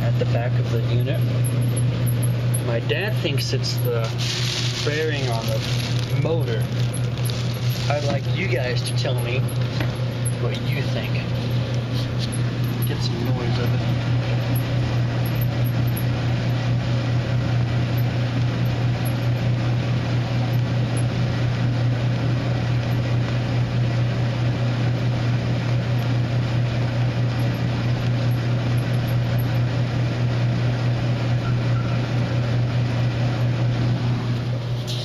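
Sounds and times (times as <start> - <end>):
dryer drum humming: 0.0 - 35.0.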